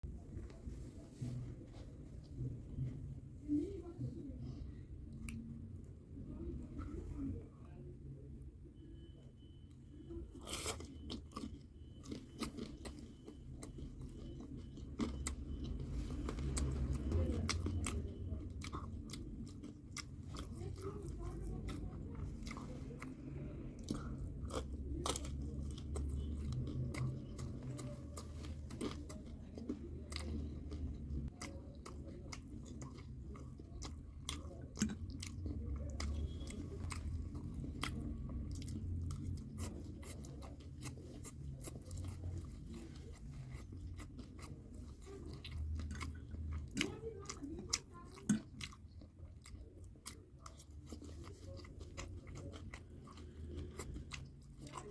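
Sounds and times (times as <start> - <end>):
crunchy chewing and biting: 10.3 - 54.9.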